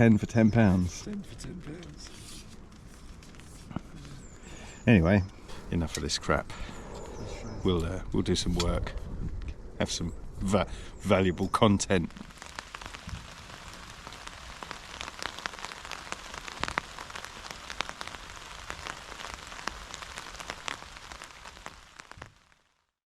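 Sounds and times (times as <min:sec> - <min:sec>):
raindrops striking close by: 0:00.0 - 0:23.0
steady rain falling: 0:00.0 - 0:23.0.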